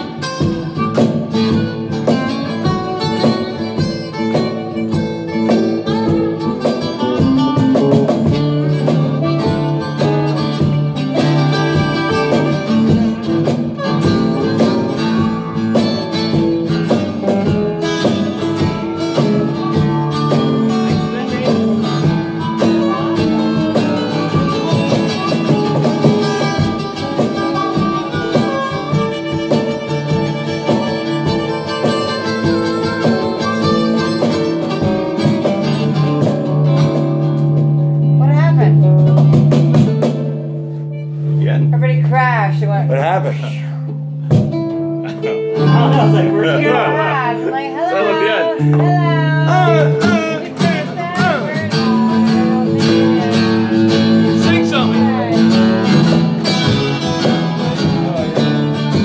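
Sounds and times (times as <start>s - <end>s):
electric guitar: 0.0s - 59.0s
live rock and roll band: 0.0s - 59.0s.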